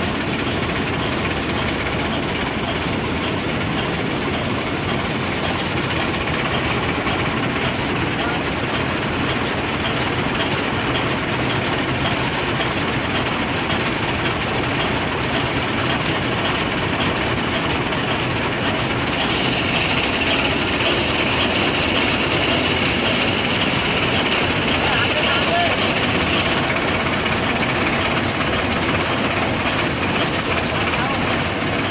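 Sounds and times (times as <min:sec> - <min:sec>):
combine harvester running: 0:00.0 - 0:31.9.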